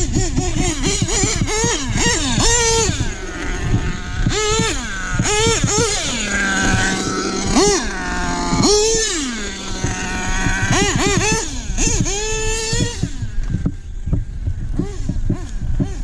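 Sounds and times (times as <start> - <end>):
nitro engine revving: 0.0 - 16.0.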